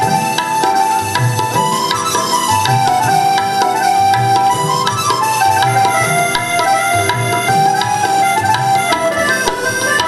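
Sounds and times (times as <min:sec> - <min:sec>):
harmonium melody: 0:00.0 - 0:10.0
tabla strokes: 0:00.0 - 0:10.0.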